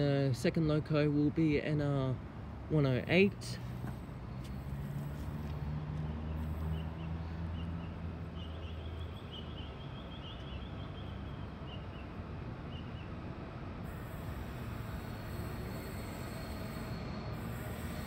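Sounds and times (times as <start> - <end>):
distant diesel locomotive hum: 0.0 - 18.0.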